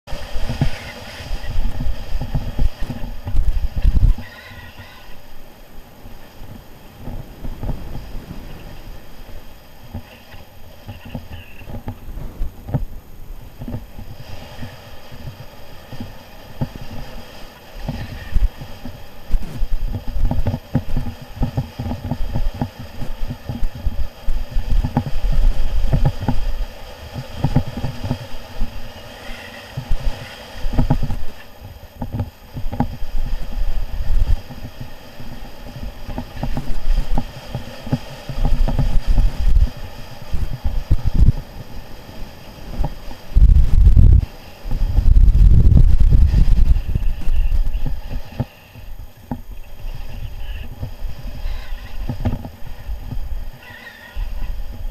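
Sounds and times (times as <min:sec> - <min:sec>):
motorcycle engine hum: 0:00.0 - 0:54.9
wind buffeting microphone: 0:00.1 - 0:54.9.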